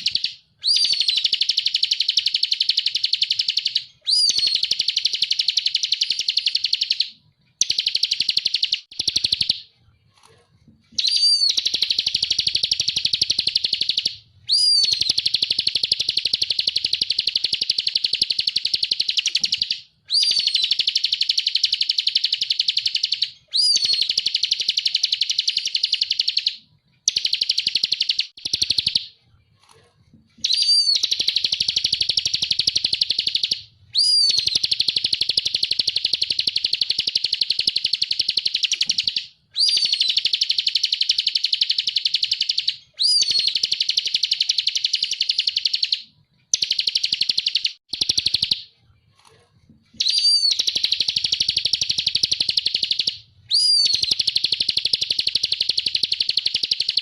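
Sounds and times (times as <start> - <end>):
songbird singing fast trills: 0.0 - 9.6, 11.0 - 29.0, 30.4 - 46.0, 50.0 - 57.0.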